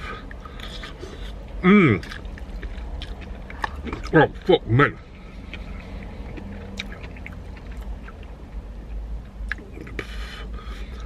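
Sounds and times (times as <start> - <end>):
person chewing: 0.0 - 11.0
steady low rumble: 0.0 - 11.0.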